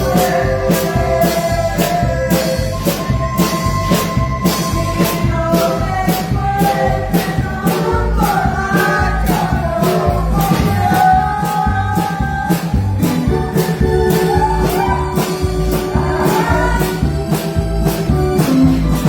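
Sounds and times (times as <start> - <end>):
keyboard dance music: 0.0 - 19.0.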